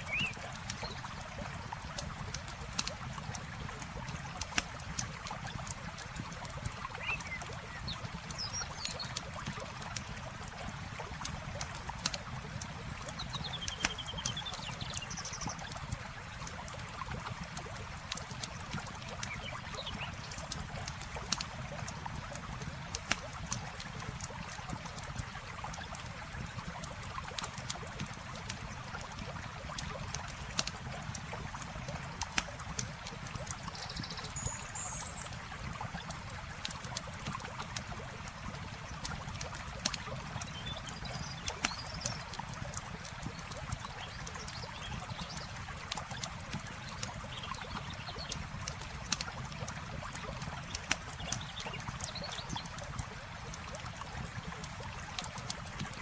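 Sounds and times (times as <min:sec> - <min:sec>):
flowing water: 0:00.0 - 0:56.0
campfire crackling: 0:00.4 - 0:14.4, 0:20.1 - 0:33.8, 0:35.4 - 0:56.0.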